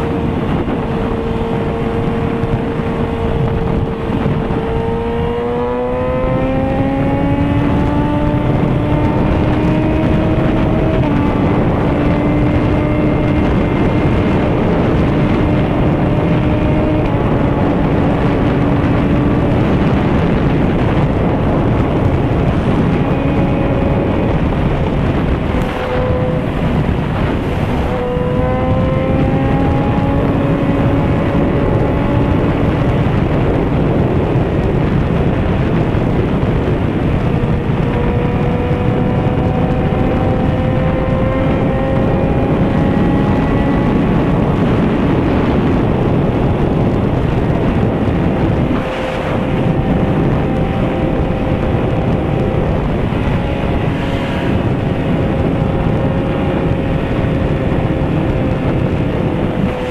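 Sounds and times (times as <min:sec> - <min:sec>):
motorcycle engine accelerating: 0:00.0 - 0:59.9
wind rush over microphone: 0:00.0 - 0:59.9.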